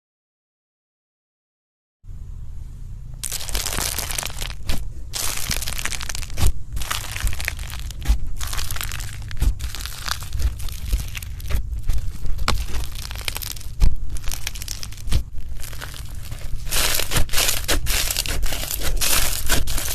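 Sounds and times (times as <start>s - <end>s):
slime crackling and crunching: 3.2s - 19.9s
slime popping: 3.2s - 19.9s.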